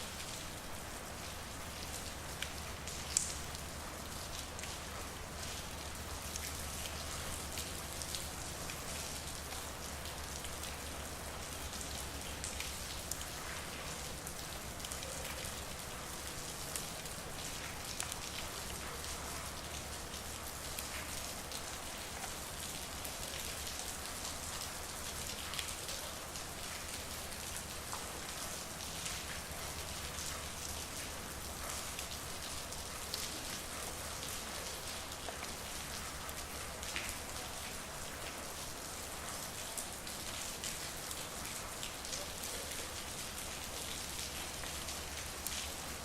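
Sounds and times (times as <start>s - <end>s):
rain hissing on street: 0.0s - 46.0s
raindrop ticks and drips: 0.0s - 46.0s.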